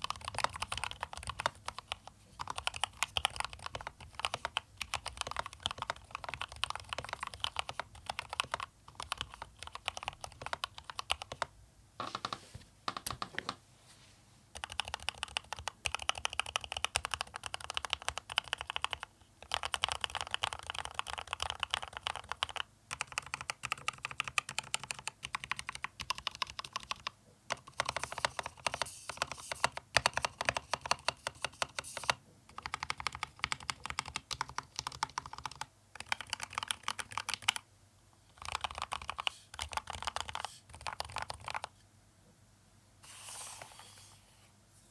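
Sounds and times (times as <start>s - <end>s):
fast mechanical keyboard typing: 0.0s - 11.5s, 14.6s - 37.6s, 38.3s - 41.7s.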